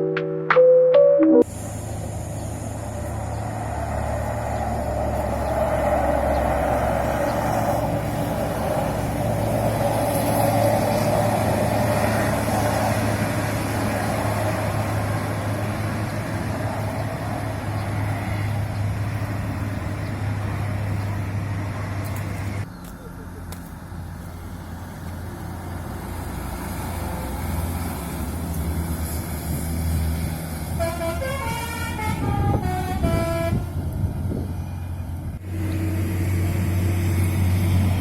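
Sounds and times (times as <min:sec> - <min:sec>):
bus engine and tyre noise: 0:01.4 - 0:38.0.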